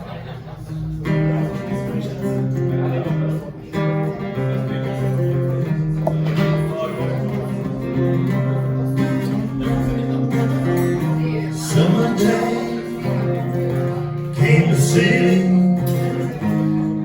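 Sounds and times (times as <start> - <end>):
strummed guitar chords: 0.7 - 17.0.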